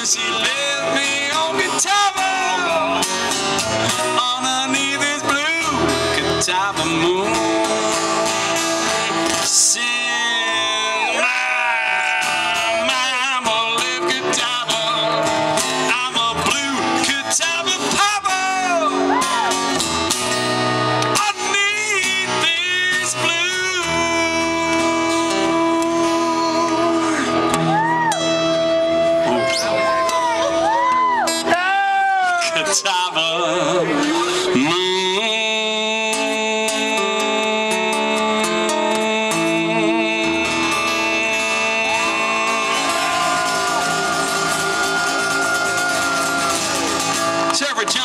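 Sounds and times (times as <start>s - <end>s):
bent guitar notes: 0.0s - 48.0s
live band playing blues: 0.0s - 48.0s.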